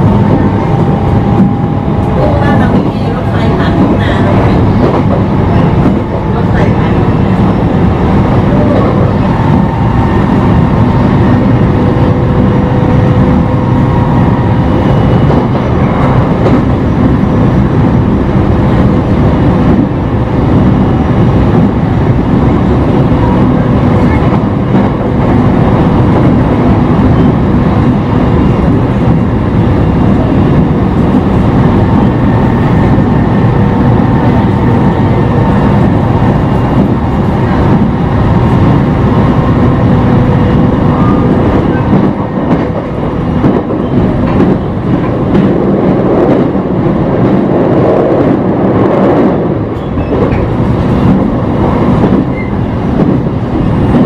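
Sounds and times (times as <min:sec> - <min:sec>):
wheel-on-rail rumble: 0:00.0 - 0:54.0.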